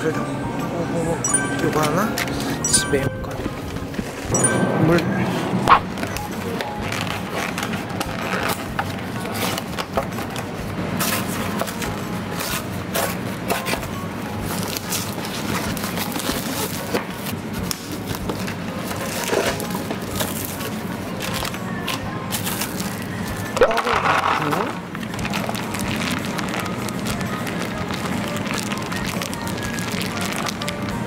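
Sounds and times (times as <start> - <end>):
background music: 0.0 - 31.0
plastic wrap crinkling and tearing: 5.9 - 31.0.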